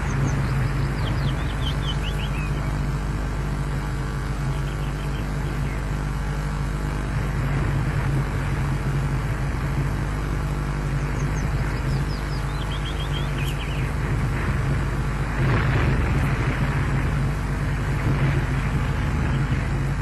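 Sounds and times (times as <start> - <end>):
low drone with hiss: 0.0 - 20.0.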